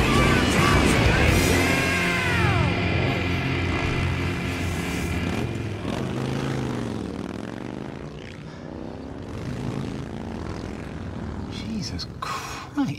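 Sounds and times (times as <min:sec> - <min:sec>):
motorcycle engines running: 0:00.0 - 0:12.9.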